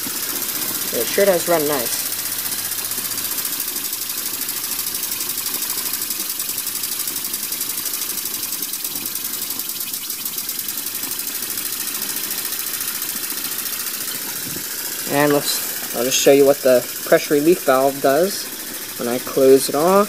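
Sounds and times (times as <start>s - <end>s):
steam engine rapid beat: 0.0s - 20.0s
steam hissing: 0.0s - 20.0s.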